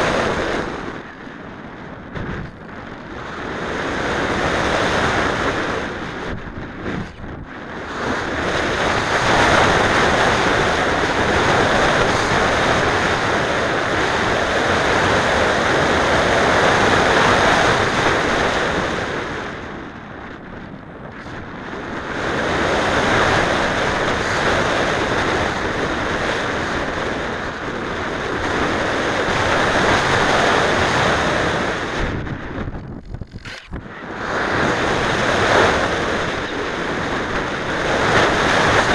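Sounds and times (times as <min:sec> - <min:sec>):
wind noise on microphone: 0:00.0 - 0:38.9.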